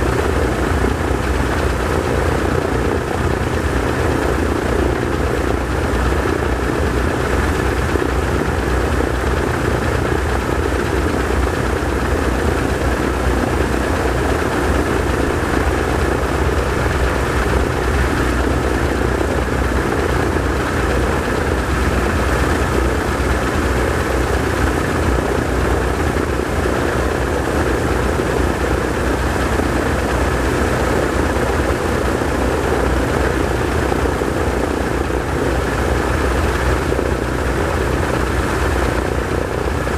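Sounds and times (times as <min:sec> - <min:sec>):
aircraft radial engines running: 0:00.0 - 0:39.9.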